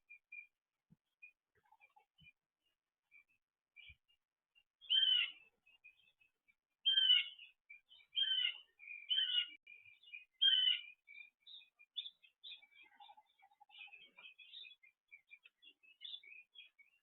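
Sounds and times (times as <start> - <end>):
soft bird chirps and twitters: 0.0 - 17.0.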